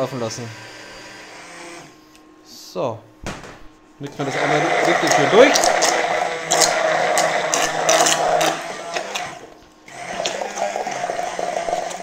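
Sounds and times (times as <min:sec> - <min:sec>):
immersion blender running: 0:00.0 - 0:02.0, 0:04.1 - 0:12.0.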